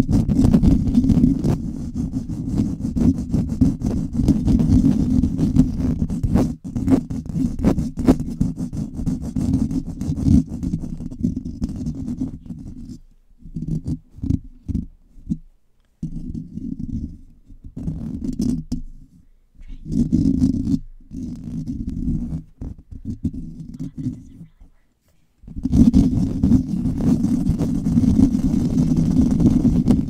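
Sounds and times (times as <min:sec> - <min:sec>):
fingers scratching on microphone: 0:00.0 - 0:30.0.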